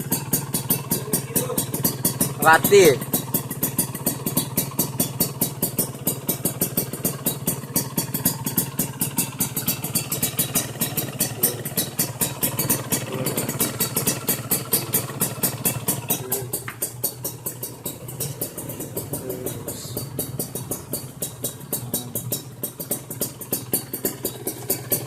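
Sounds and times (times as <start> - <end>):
motorcycle idling: 0.0 - 25.0.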